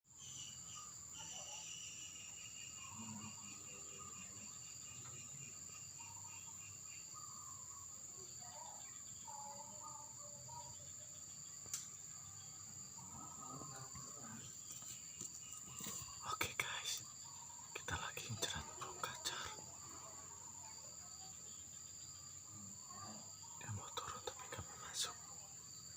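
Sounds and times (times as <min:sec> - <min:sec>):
faint bird chirps: 0:00.1 - 0:25.9
high-pitched insect trilling: 0:00.1 - 0:25.9.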